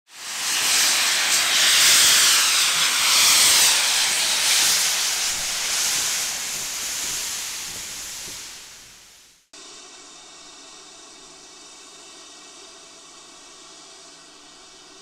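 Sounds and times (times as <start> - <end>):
steam locomotive venting steam: 0.1 - 15.0.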